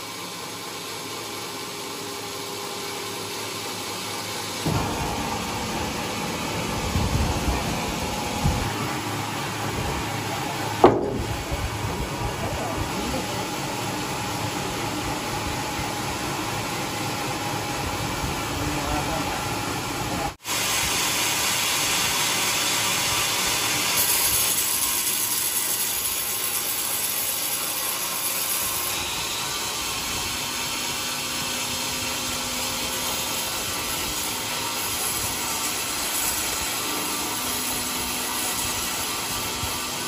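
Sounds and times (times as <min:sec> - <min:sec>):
saw cutting through wood: 0:00.0 - 0:40.0.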